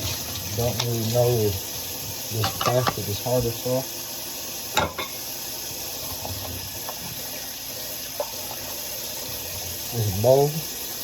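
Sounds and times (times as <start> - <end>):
water running from tap: 0.0 - 11.0.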